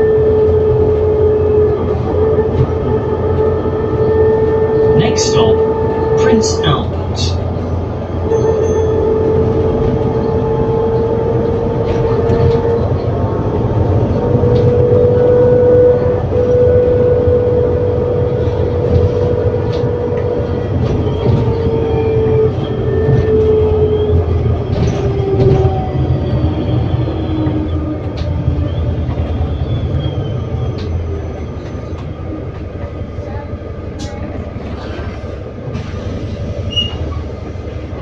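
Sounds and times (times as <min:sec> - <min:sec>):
bus drivetrain rumble: 0:00.0 - 0:38.0.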